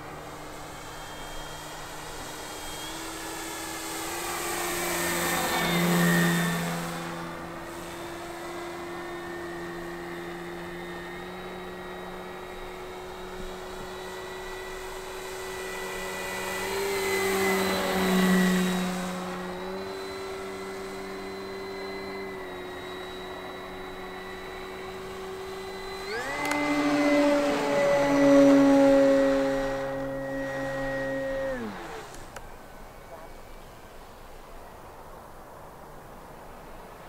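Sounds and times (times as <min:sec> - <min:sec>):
model plane electric motor whine: 0:00.0 - 0:34.4.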